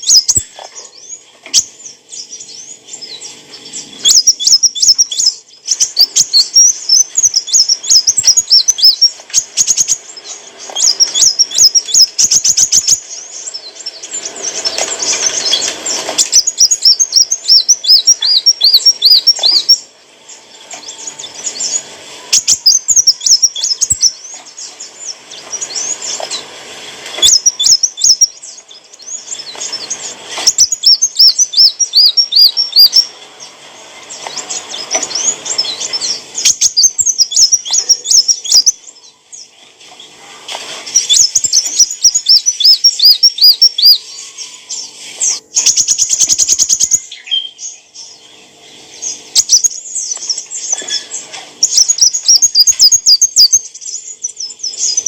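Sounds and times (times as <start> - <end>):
sunbird chirps and trills: 0.0 - 55.0.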